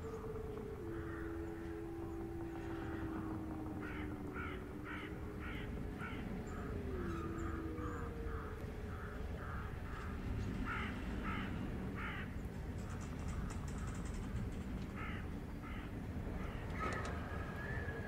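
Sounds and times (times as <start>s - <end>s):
low drone: 0.0s - 18.0s
crows cawing: 0.1s - 12.4s, 14.9s - 17.2s.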